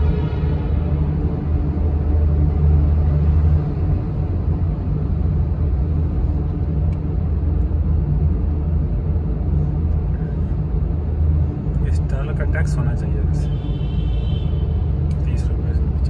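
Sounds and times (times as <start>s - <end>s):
car engine rumble: 0.0s - 16.0s
road noise: 0.0s - 16.0s
traffic: 0.0s - 16.0s.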